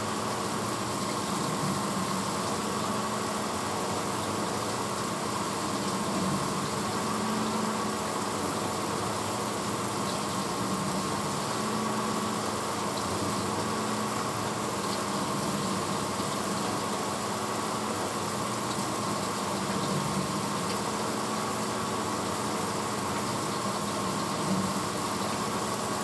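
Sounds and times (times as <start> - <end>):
dishwasher running: 0.0 - 26.0.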